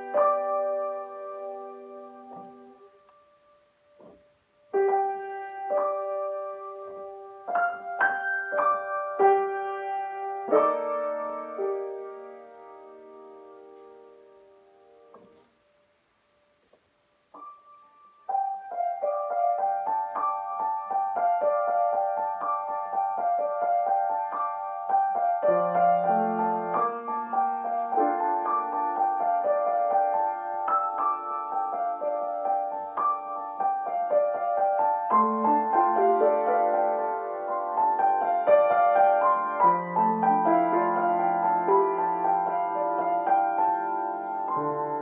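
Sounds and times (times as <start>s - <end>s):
grand piano improvisation: 0.0s - 16.6s, 17.2s - 45.0s.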